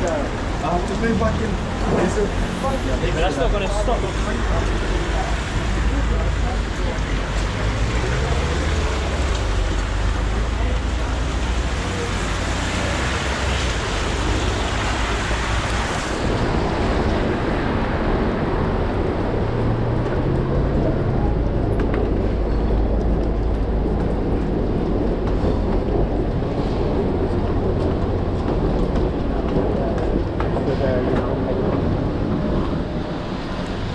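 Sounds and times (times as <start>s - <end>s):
traffic on wet street: 0.0s - 33.9s.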